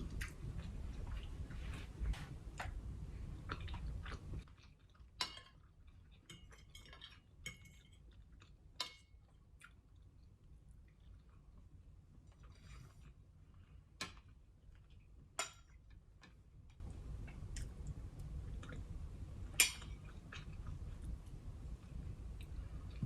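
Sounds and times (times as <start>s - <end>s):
chewing food: 0.0s - 23.0s.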